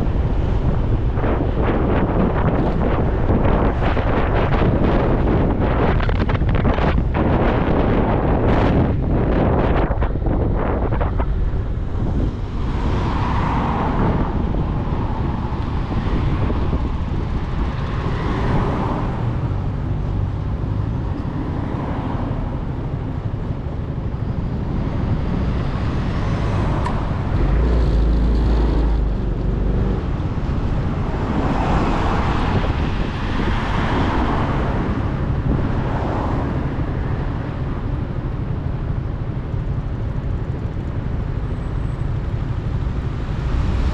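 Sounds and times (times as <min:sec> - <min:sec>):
road noise: 0:00.0 - 0:43.9
vehicles passing: 0:00.0 - 0:43.9.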